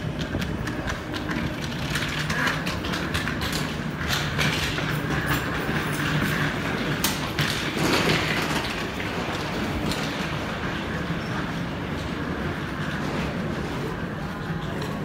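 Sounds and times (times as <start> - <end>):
train hum and rumble: 0.0 - 15.0.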